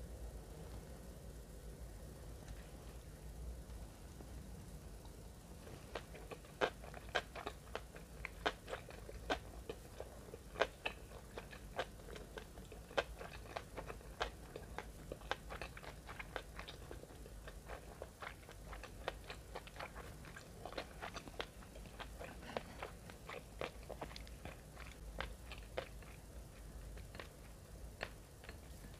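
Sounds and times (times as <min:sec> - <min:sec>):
faint low hum: 0:00.0 - 0:28.9
chewing crunches: 0:05.6 - 0:28.9.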